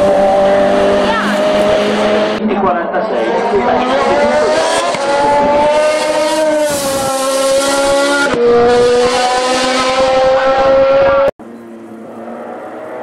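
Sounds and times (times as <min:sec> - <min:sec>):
quieter engine: 0:00.0 - 0:13.0
race car engine at high revs: 0:00.0 - 0:13.0.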